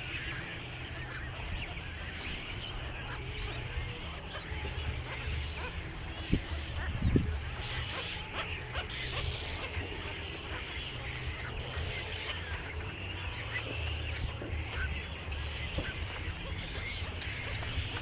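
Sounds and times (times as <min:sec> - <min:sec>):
birds calling and chirping: 0:00.0 - 0:18.0
steady low hum: 0:00.0 - 0:18.0.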